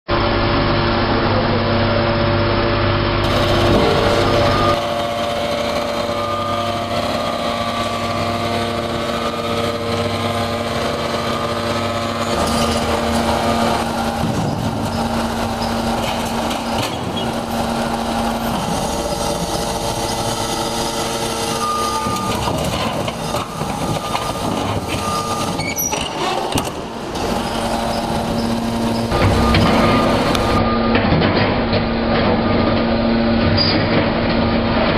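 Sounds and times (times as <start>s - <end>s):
hydraulic baler machine hum: 0.1s - 34.9s
pump whine: 0.1s - 34.9s.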